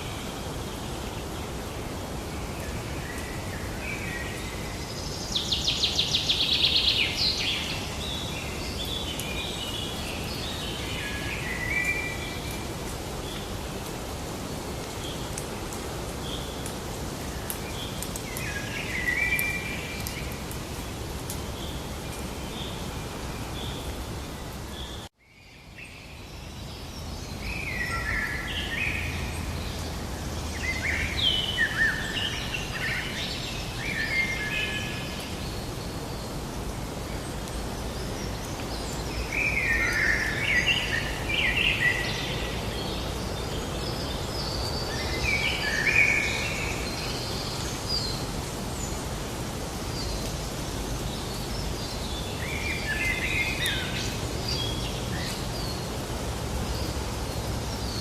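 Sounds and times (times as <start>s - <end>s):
natural background hiss: 0.0s - 58.0s
songbirds chirping: 0.0s - 58.0s.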